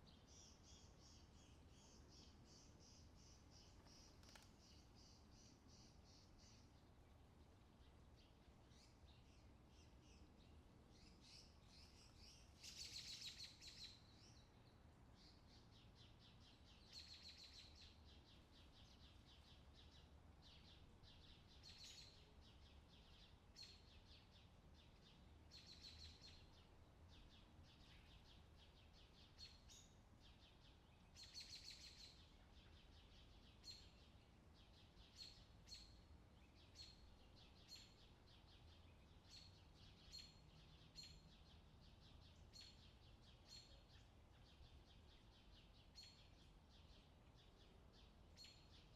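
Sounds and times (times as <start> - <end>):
songbirds chirping and trilling: 0.0 - 48.9.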